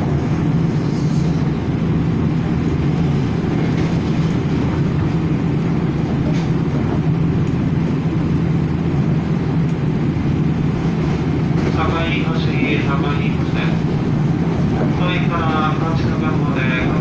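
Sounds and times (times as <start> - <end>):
constant train hum: 0.0 - 17.0
train wheels rumbling on rail: 0.0 - 17.0.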